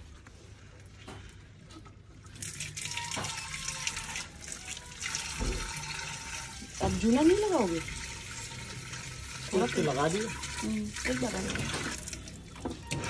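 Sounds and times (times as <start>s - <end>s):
water pouring into clay pot: 2.1s - 13.0s.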